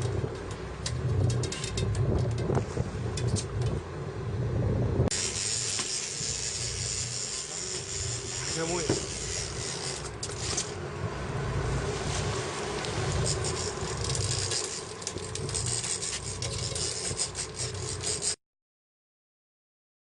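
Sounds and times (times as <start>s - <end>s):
boat motor running: 0.0s - 18.4s
water noise: 0.0s - 18.4s
wind: 0.0s - 18.4s.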